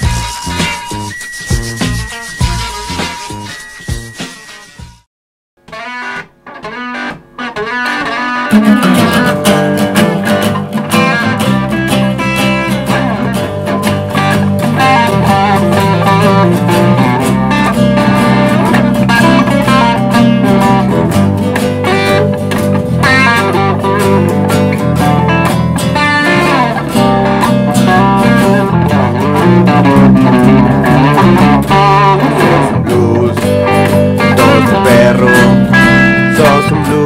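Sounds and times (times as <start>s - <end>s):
rock band playing blues: 0.0s - 4.7s, 5.7s - 37.0s
blues guitar phrases: 5.6s - 37.0s.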